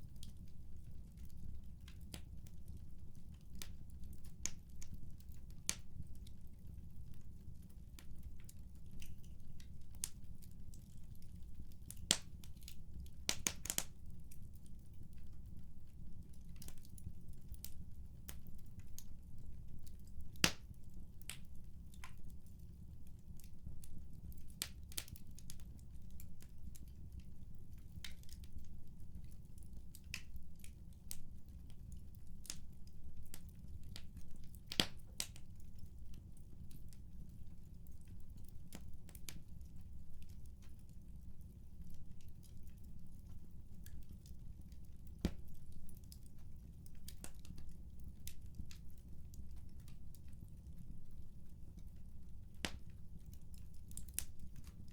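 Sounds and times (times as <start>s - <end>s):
wood fire crackling and popping: 0.0s - 54.9s.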